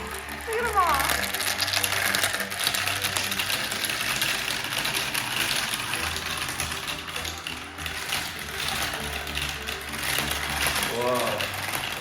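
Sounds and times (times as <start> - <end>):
gumballs clattering down marble run: 0.0 - 12.0.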